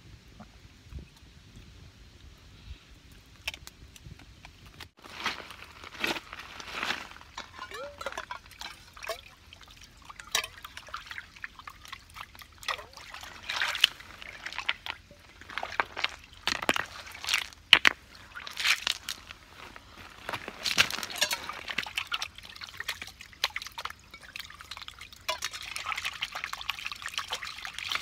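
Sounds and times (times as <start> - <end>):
water sloshing and splashing: 4.9 - 28.0.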